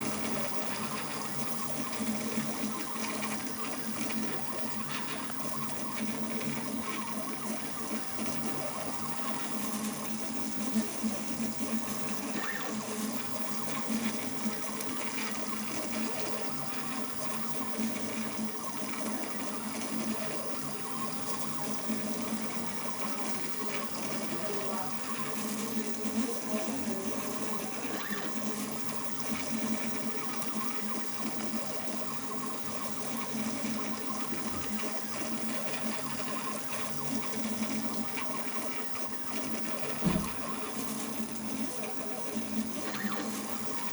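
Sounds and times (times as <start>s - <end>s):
printer stepper motors whirring: 0.0s - 43.9s.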